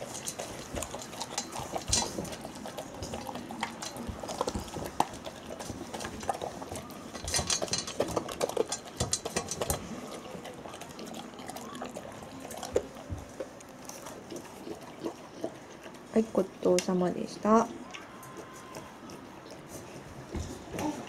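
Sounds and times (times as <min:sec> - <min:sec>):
dog crunching kibble: 0:00.0 - 0:17.0
kibble rattling on metal bowl: 0:00.0 - 0:17.0.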